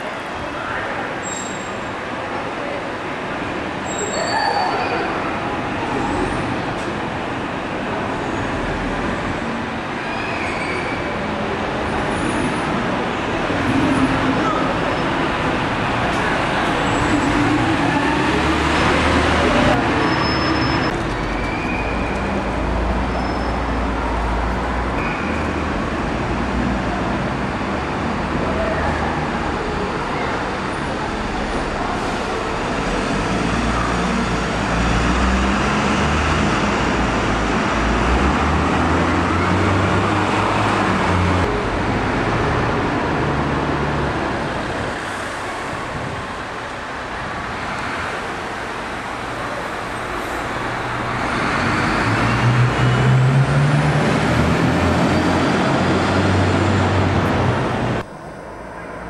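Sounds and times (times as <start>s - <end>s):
diesel bus engines running: 0.0s - 59.0s
traffic noise: 0.0s - 59.0s.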